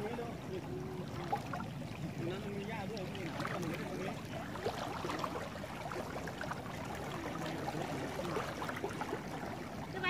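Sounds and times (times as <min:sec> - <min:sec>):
fast-flowing floodwater: 0:00.0 - 0:10.0.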